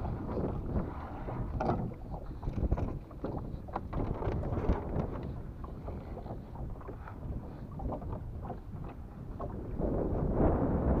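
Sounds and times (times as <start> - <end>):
small boat engine rumble: 0.0 - 11.0
wind buffeting microphone: 0.0 - 11.0.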